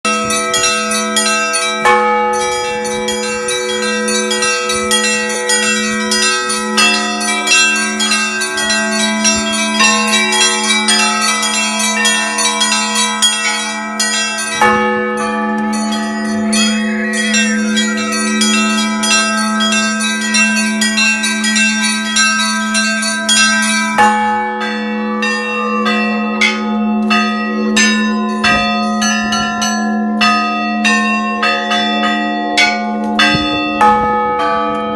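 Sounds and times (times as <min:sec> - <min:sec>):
large bell humming: 0:00.1 - 0:34.9
small high bells ringing: 0:00.1 - 0:34.9.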